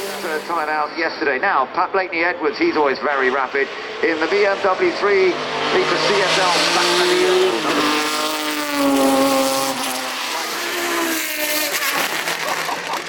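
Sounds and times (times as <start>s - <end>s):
car engine revving hard: 0.0s - 0.8s, 3.2s - 13.0s.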